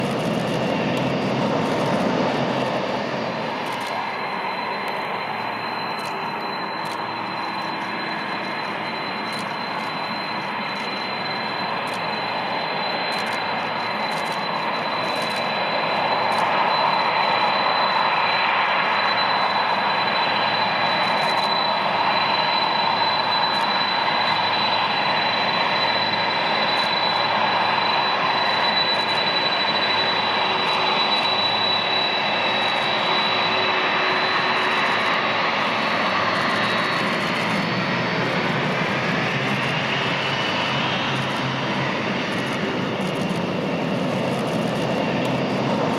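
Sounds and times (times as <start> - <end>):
jet engines roaring with whine: 0.0 - 45.9.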